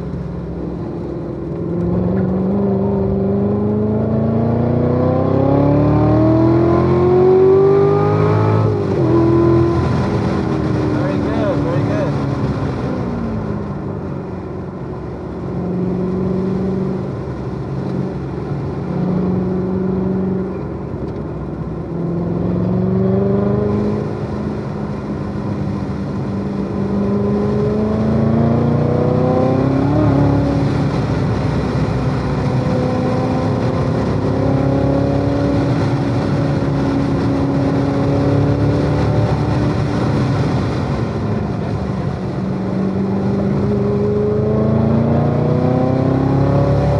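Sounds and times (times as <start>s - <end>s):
sports car engine accelerating: 0.0s - 46.9s.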